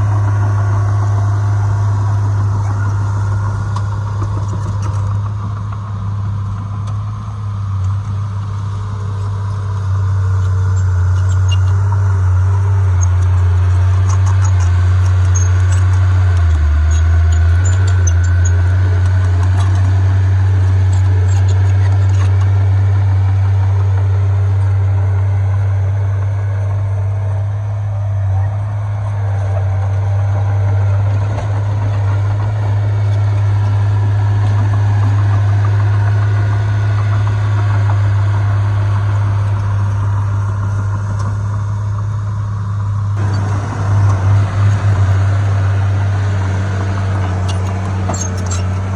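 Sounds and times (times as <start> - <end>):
heavy diesel engine droning: 0.0 - 48.9.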